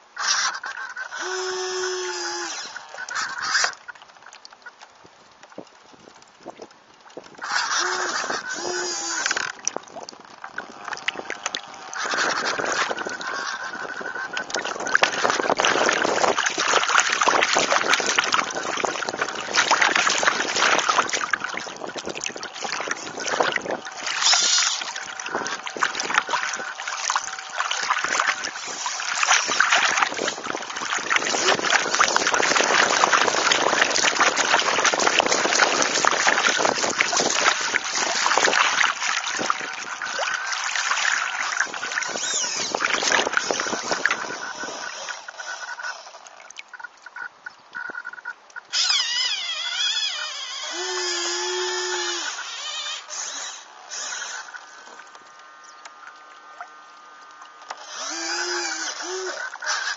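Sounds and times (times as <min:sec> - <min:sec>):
water rushing against a hull: 0:00.0 - 0:59.9.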